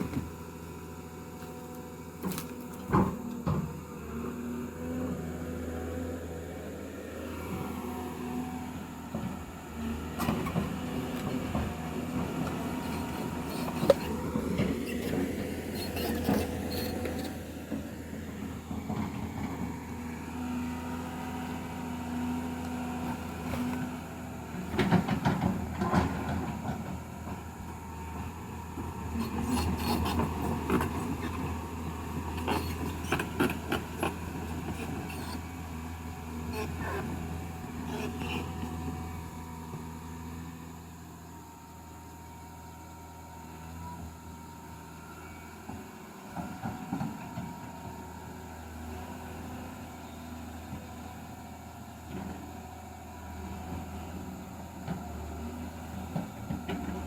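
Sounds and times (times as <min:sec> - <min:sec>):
heavy machine engine running: 0:00.0 - 0:57.0.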